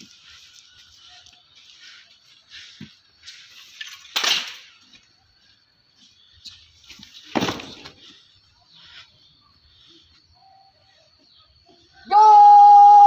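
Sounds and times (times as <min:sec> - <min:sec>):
faint scattered sounds: 0:00.0 - 0:12.0.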